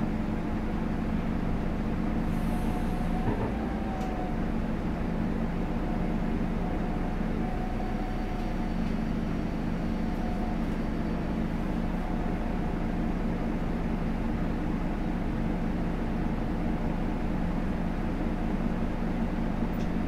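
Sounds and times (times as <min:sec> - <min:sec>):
bus diesel engine running: 0:00.0 - 0:20.0.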